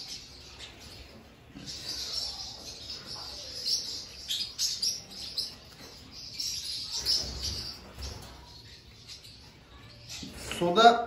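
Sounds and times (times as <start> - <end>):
budgerigars chirping: 0.0 - 9.5.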